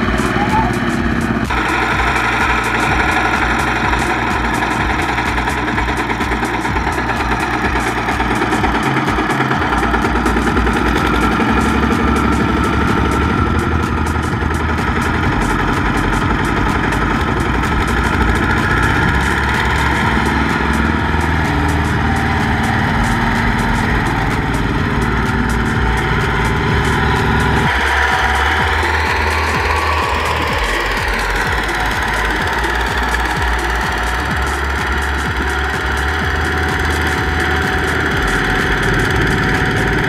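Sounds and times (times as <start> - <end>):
diesel engine chugging: 0.0 - 40.0.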